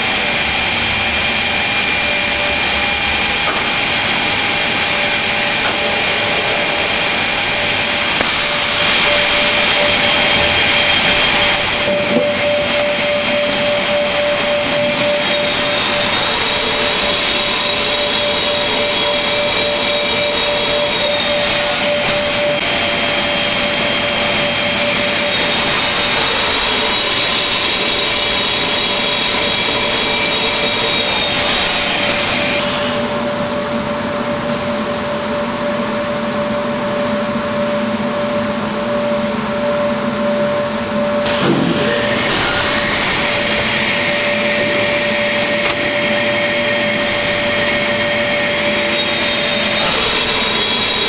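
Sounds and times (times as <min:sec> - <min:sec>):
low hum: 0:00.0 - 0:51.0
panel saw running with whine: 0:00.0 - 0:51.0.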